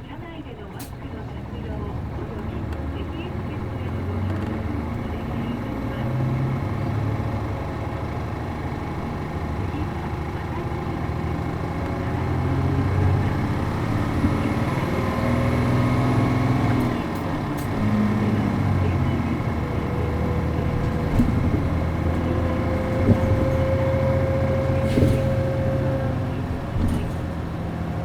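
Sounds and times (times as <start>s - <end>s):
bus diesel engine from inside: 0.0s - 28.0s.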